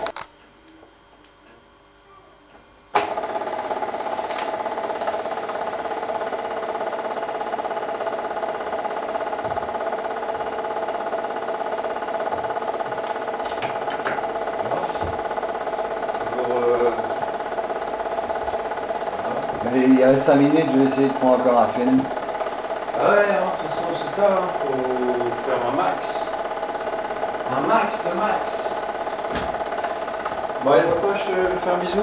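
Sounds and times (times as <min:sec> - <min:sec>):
film projector whirring: 0:00.0 - 0:01.8, 0:02.5 - 0:32.0.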